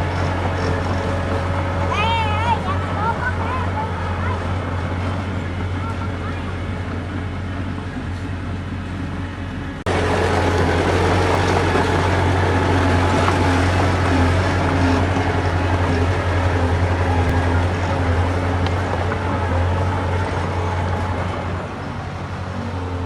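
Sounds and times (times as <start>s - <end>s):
diesel earthmoving machinery droning: 0.0s - 23.0s.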